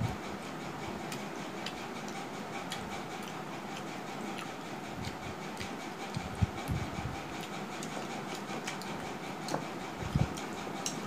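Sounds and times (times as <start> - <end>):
fingers mixing rice on steel plate: 1.0 - 11.0
chewing and mouth smacks: 1.1 - 11.0.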